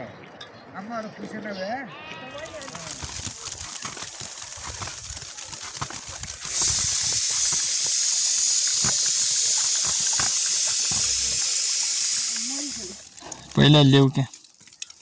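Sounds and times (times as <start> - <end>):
loud steady hiss: 2.3 - 15.0.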